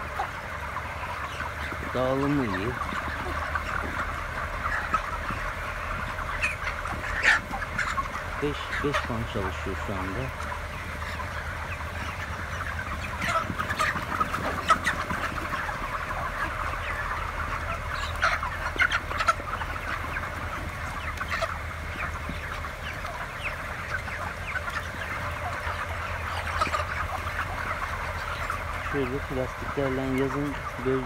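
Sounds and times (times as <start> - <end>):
chickens cheeping: 0.0 - 31.0
ventilation fans humming: 0.0 - 31.0.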